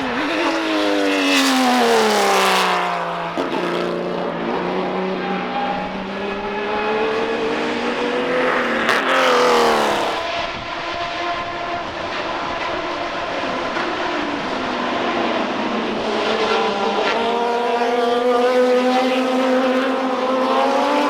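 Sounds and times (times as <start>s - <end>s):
race car accelerating past: 0.0s - 10.4s, 12.8s - 21.0s
race car engines: 0.0s - 21.0s.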